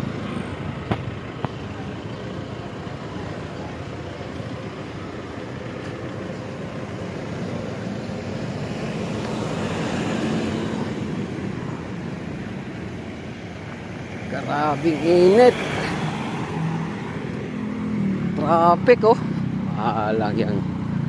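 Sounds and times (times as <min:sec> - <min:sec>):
vehicle engines in slow traffic: 0:00.0 - 0:21.0.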